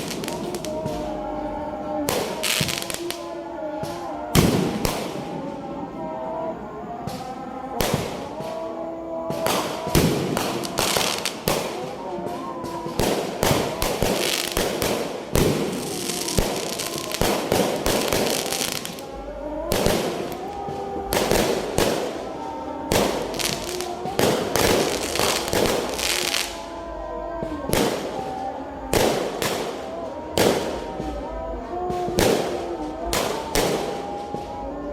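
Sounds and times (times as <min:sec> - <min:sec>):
fireworks bangs: 0:00.0 - 0:06.3, 0:06.9 - 0:34.9
fireworks crackling: 0:00.0 - 0:34.9.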